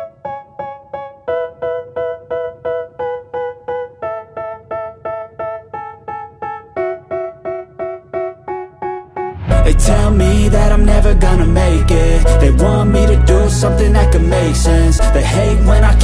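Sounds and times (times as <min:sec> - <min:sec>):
keyboard playing repeated chords: 0:00.0 - 0:16.0.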